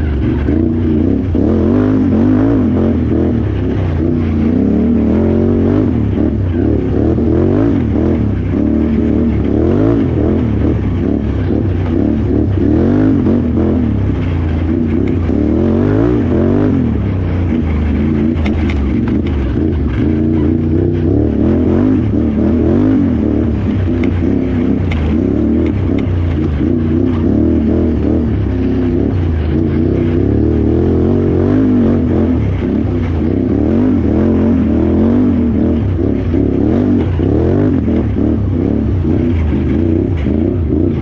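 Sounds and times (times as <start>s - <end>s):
atv engine revving: 0.0s - 41.0s.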